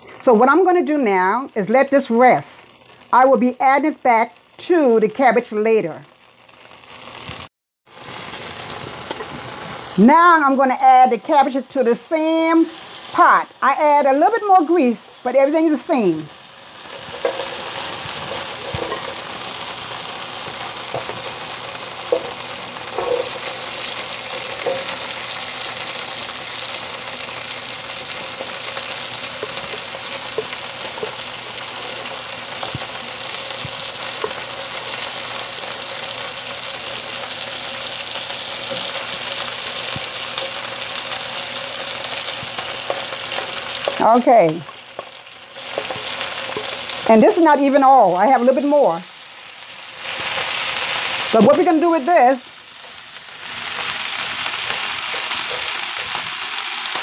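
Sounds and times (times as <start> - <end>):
cabbage sizzling in hot grease: 0.0 - 57.0.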